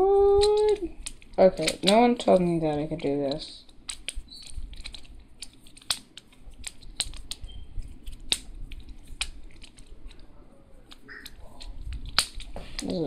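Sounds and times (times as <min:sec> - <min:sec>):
plastic blocks clicking: 0:00.2 - 0:13.0.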